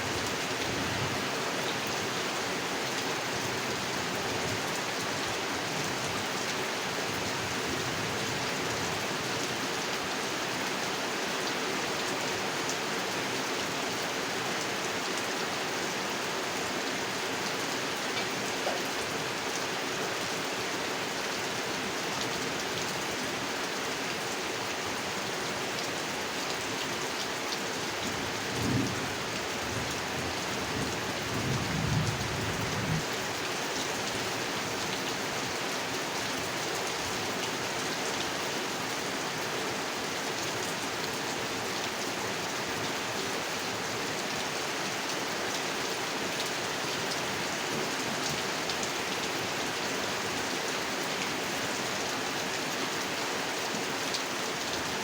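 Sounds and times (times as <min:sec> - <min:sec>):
heavy rain on a pond: 0:00.0 - 0:55.0.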